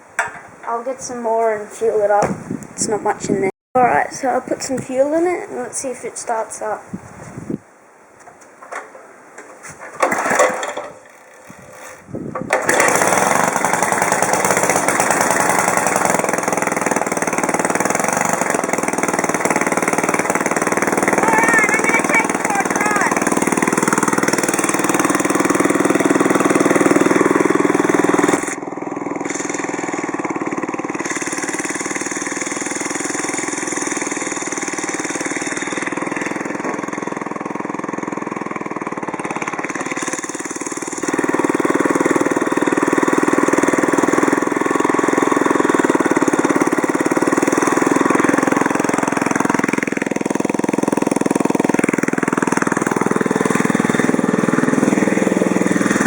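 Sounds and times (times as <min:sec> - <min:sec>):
lawnmower engine running: 0:08.0 - 0:56.0.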